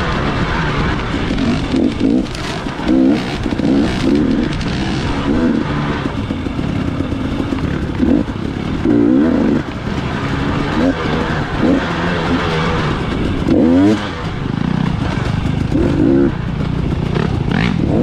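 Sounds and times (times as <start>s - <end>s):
dirt bike engine revving: 0.0s - 18.0s
steady rushing noise: 0.0s - 18.0s.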